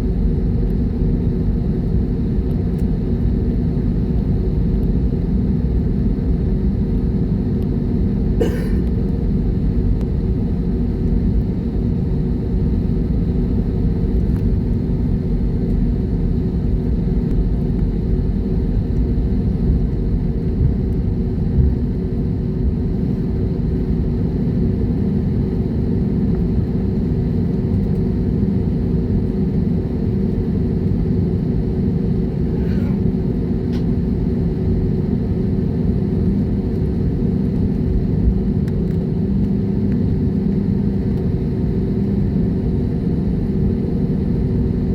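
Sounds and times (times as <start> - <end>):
faint steady hums: 0.0 - 44.9
jet engines rumbling: 5.1 - 44.9.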